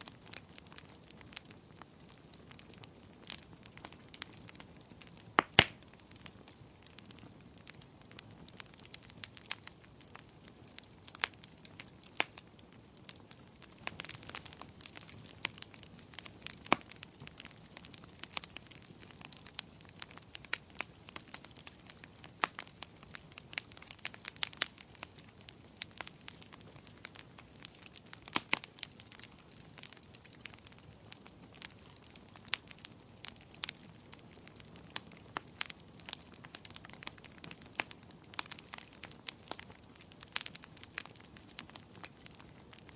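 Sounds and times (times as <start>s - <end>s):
fire crackling and popping: 0.0s - 42.9s
low steady hiss: 0.0s - 42.9s.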